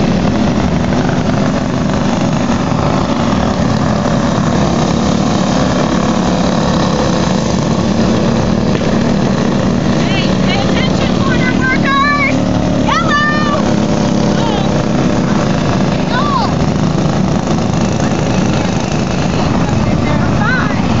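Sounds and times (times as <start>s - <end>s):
go-kart engines buzzing: 0.0s - 21.0s.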